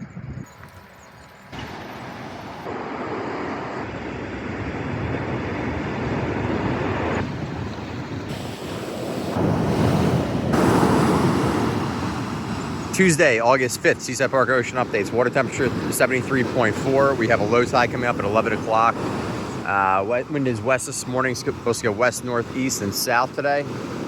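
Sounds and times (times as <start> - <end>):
wind buffeting microphone: 0.0 - 24.0
ocean surf breaking: 1.5 - 24.0.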